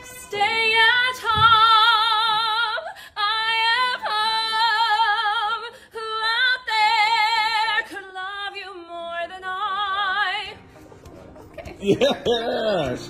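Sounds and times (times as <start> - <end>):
woman singing unaccompanied: 0.0 - 10.6.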